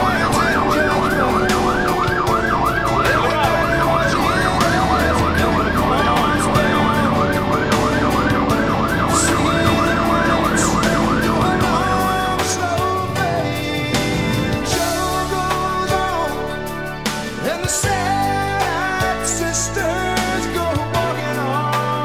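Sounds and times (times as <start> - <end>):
low engine rumble: 0.0 - 19.0
road noise: 0.0 - 20.6
fire engine siren yelping: 0.0 - 21.6.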